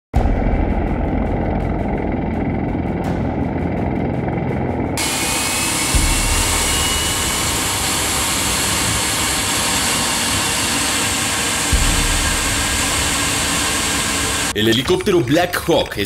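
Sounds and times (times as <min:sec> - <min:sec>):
fast rotor beat: 0:00.2 - 0:14.6
rising whine: 0:00.2 - 0:14.6
tiltrotor aircraft engines running: 0:00.5 - 0:14.6.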